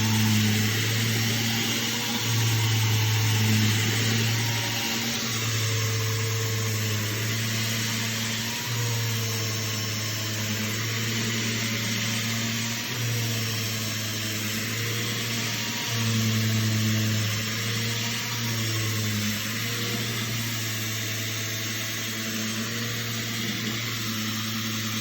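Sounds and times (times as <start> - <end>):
power sander on wood: 0.0 - 25.0.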